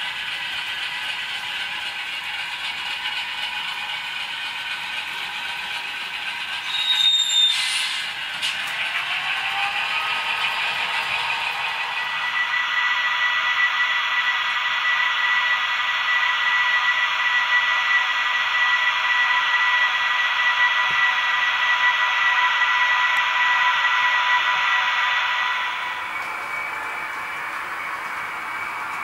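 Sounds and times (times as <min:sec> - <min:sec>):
model locomotive hiss and whine: 0:00.0 - 0:29.0.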